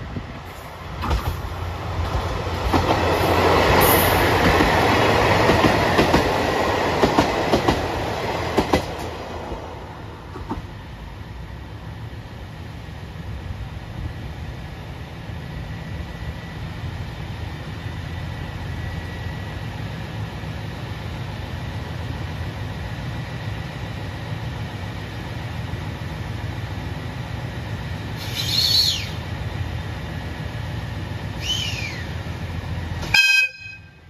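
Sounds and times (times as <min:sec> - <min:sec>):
diesel train engines idling: 0:00.0 - 0:34.0.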